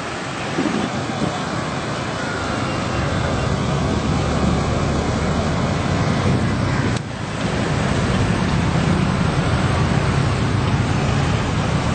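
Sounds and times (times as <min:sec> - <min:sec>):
road traffic roar: 0:00.0 - 0:11.9
wind buffeting microphone: 0:00.0 - 0:11.9.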